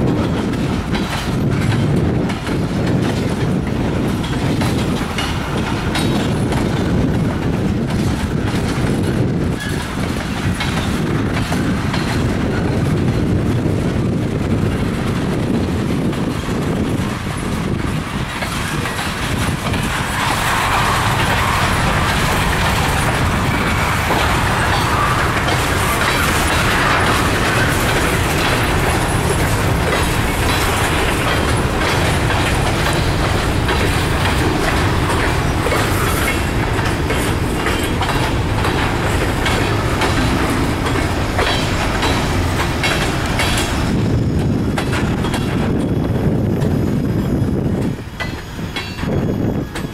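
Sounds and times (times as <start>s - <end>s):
freight cars rolling past: 0.0s - 47.7s
wheels clacking over rail joints: 0.0s - 49.9s.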